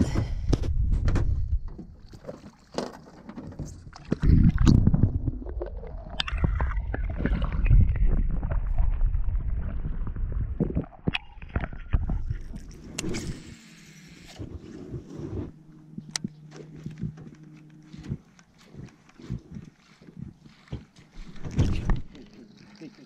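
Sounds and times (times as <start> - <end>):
underwater river rumble and gurgling: 3.4 - 22.9.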